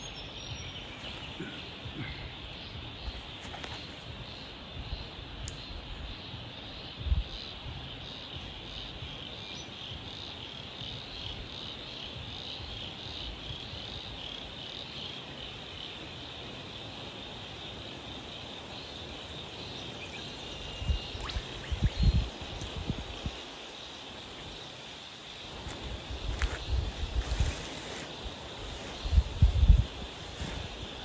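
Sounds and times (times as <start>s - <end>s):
shrill insect chorus: 0.0s - 31.0s.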